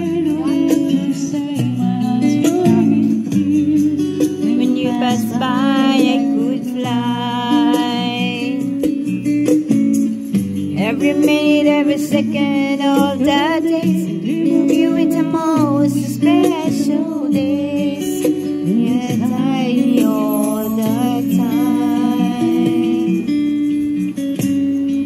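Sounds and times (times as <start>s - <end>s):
person singing: 0.0s - 9.2s, 10.6s - 23.7s
acoustic guitar: 0.0s - 25.0s.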